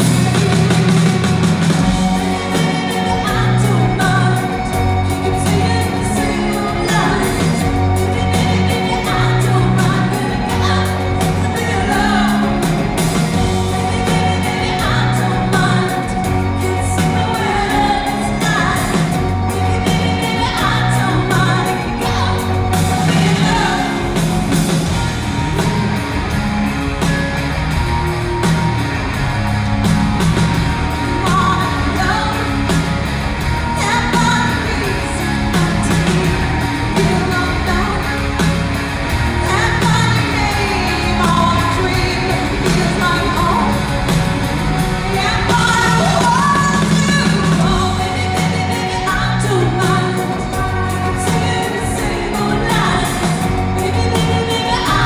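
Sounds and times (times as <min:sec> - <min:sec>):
live rock band: 0:00.0 - 0:55.0
woman singing: 0:02.0 - 0:25.1, 0:31.0 - 0:33.0, 0:33.6 - 0:55.0.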